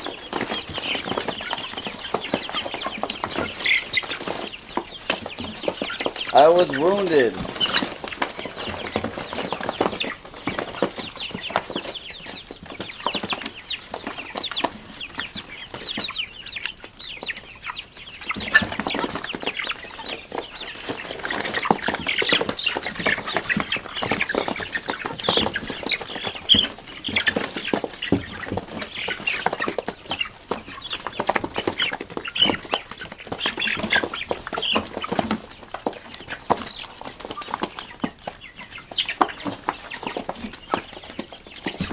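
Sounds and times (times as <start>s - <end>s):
beaks pecking at feed: 0.0s - 41.9s
chickens peeping and clucking: 0.0s - 41.9s.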